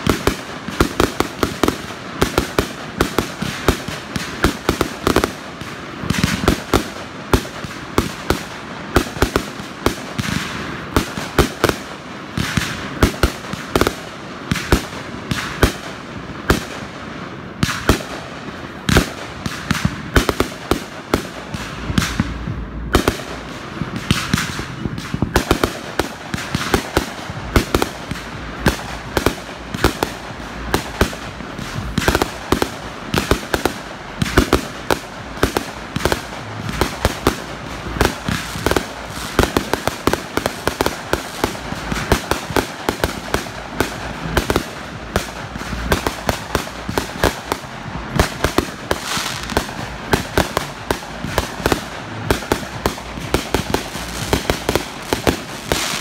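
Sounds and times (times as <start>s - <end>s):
fireworks bangs: 0.0s - 56.0s
fireworks crackle: 0.0s - 56.0s.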